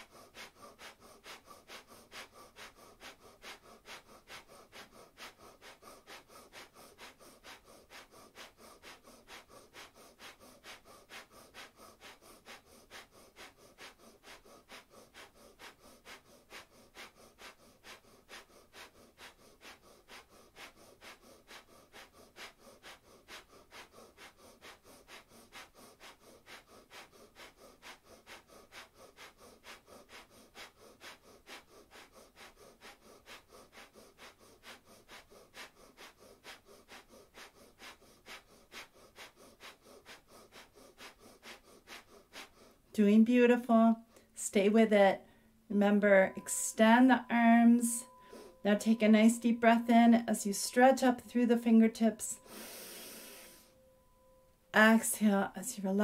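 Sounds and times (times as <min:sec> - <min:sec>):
rapid rhythmic nose breathing: 0:00.0 - 0:56.0.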